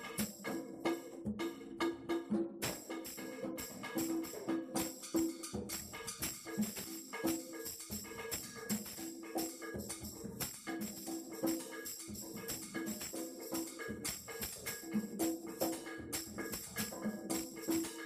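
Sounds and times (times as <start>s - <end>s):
congas playing groove: 0.0s - 18.0s.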